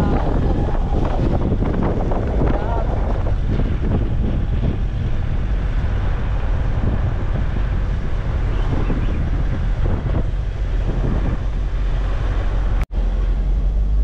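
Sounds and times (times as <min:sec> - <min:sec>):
car rumbling on the road: 0:00.0 - 0:14.0
wind buffeting microphone: 0:00.0 - 0:14.0.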